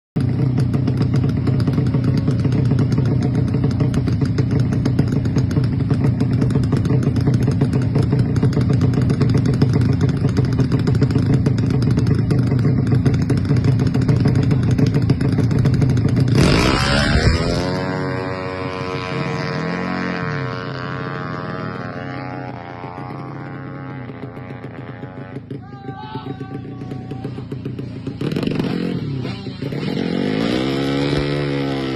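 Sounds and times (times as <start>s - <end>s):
scooter engine revving high: 0.2s - 25.6s, 26.4s - 31.9s.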